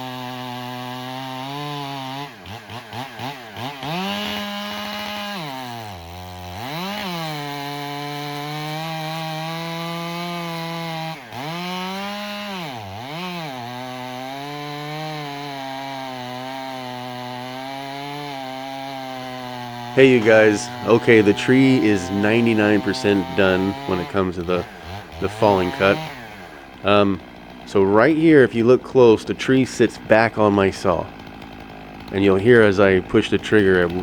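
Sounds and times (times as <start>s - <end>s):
chainsaw cutting through trunk: 0.0s - 34.0s.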